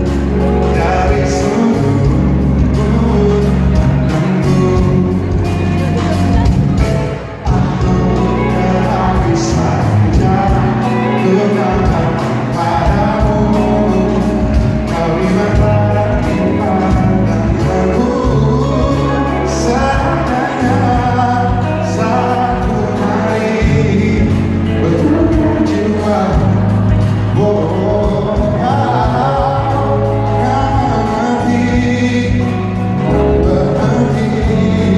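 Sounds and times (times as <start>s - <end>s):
man singing: 0.0s - 34.9s
regular drum beat: 0.0s - 34.9s
sustained bass: 0.0s - 34.9s.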